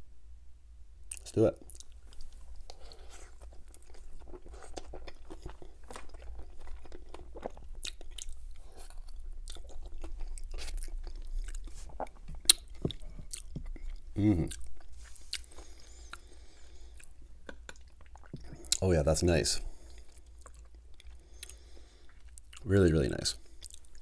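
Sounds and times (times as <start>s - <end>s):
wet chewing mouth sounds: 1.1s - 18.8s, 19.8s - 22.7s.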